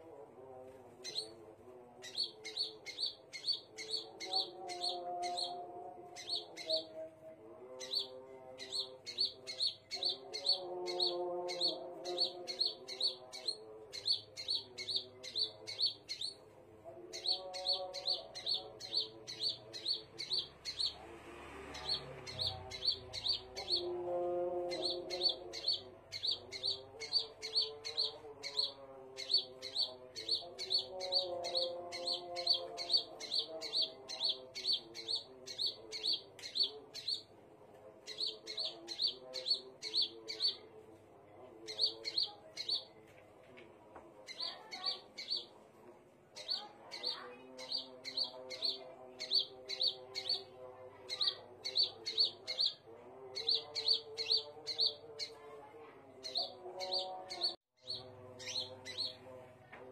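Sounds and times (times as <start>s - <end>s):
bird chirping: 1.0s - 1.4s, 2.0s - 7.1s, 7.7s - 37.4s, 38.0s - 40.8s, 41.4s - 43.1s, 44.2s - 45.6s, 46.4s - 55.5s, 56.2s - 59.4s.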